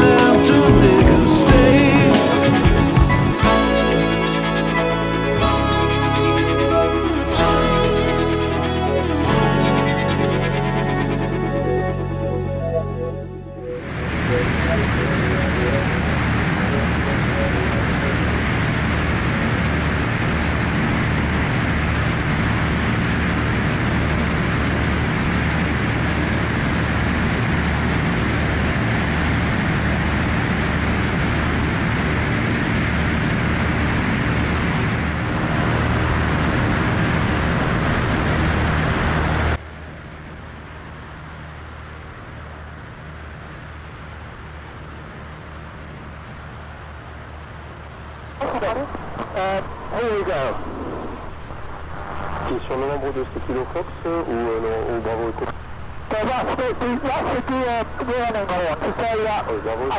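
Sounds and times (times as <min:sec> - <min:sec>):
propeller aircraft engine drone: 0:03.1 - 0:59.9.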